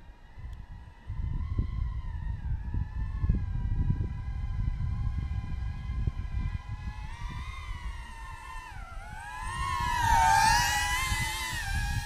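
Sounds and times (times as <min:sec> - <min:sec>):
drone propellers buzzing whine: 0:00.0 - 0:12.0.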